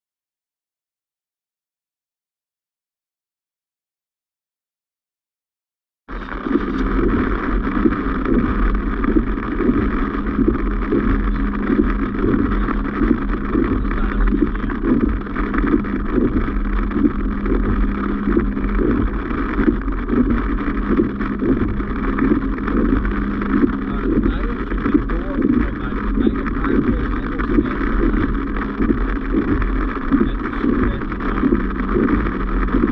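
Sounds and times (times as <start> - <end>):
vehicle engine and road rumble: 6.1 - 32.9.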